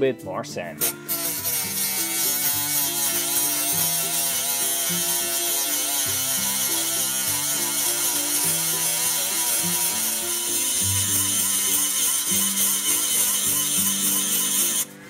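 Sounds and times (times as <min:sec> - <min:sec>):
background music: 0:00.0 - 0:15.0
rotary tool sanding metal: 0:00.8 - 0:15.0.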